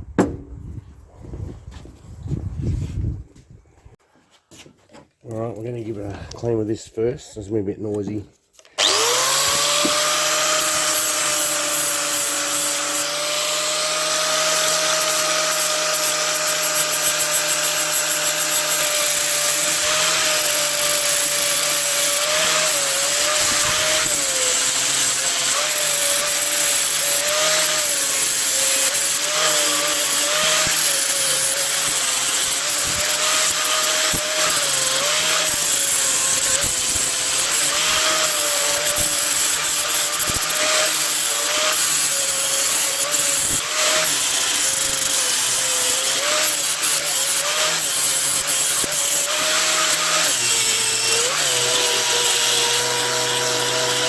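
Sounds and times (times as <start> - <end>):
power tool whining: 8.6 - 54.0.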